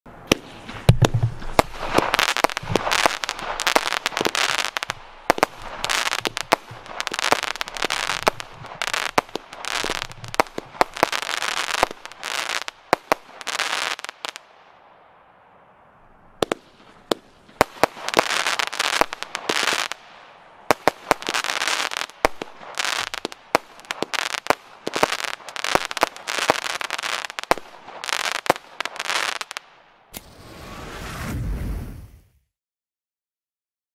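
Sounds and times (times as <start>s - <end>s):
firework bangs: 0.1s - 14.5s, 16.4s - 32.2s
firework crackling: 0.2s - 14.5s, 16.4s - 32.3s.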